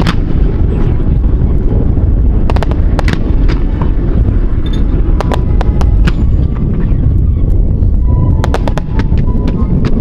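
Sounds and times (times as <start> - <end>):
fireworks cracking and banging: 0.0 - 10.0
wind buffeting on microphone: 0.0 - 10.0.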